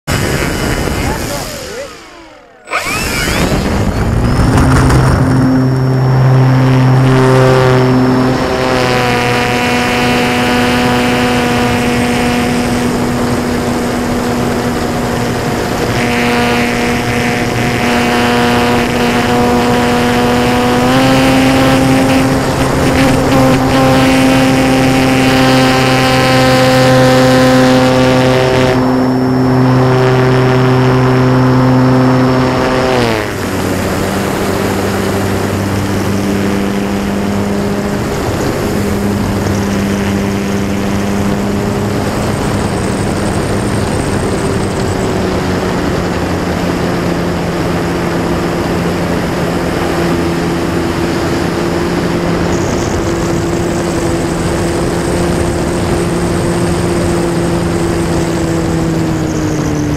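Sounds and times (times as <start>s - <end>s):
electric motor and propeller: 0.1s - 59.9s.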